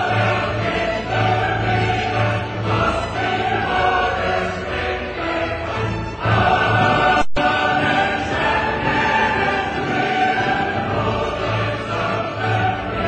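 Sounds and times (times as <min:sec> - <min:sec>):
operatic choral singing: 0:00.0 - 0:13.0.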